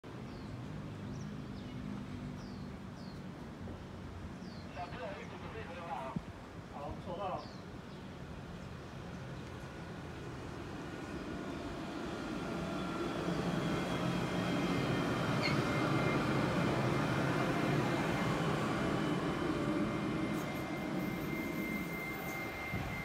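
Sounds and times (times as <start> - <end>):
tram passing on track: 0.1 - 23.0.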